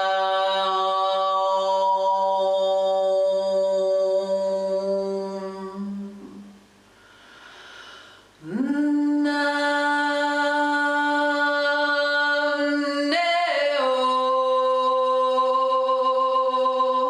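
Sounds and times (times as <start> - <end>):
woman singing held drone: 0.0 - 6.6, 8.4 - 17.0.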